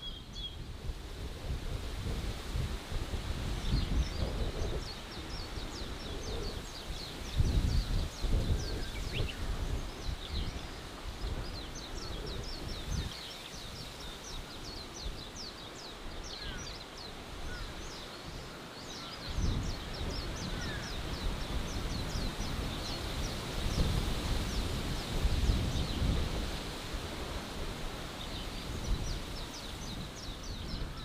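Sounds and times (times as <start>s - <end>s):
birds chirping: 3.6s - 26.2s, 27.7s - 31.0s.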